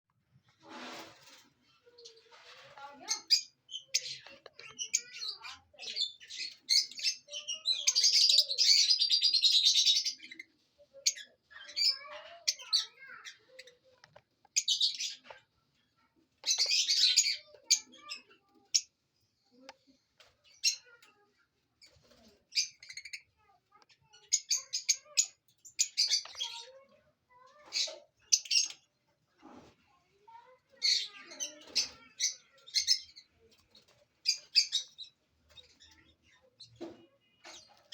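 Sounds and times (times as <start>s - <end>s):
lovebirds chattering and chirping: 1.2s - 37.9s.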